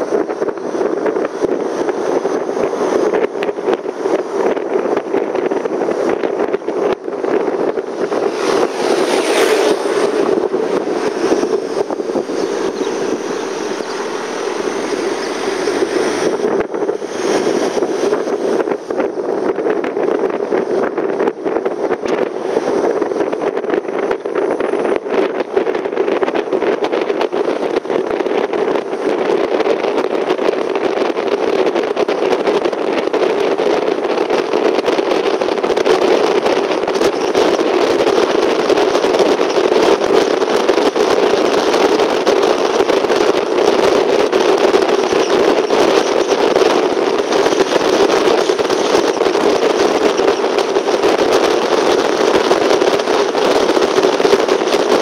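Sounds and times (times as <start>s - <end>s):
car driving road noise: 0.0s - 55.0s.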